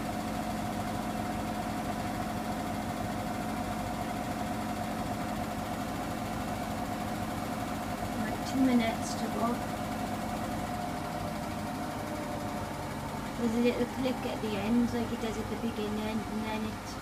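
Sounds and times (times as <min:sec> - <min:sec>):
washing machine drum motor humming: 0:00.0 - 0:17.0.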